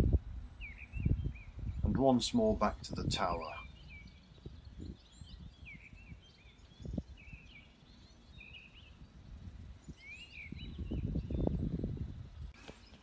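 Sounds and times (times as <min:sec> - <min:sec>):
low gusty rumble: 0:00.0 - 0:12.6
small birds chirping and singing: 0:00.0 - 0:13.0.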